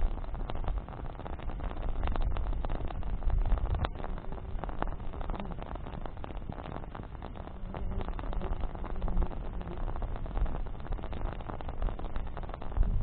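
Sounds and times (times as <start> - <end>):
campfire crackling and popping: 0.0 - 13.0
low rumble of flames: 0.0 - 13.0.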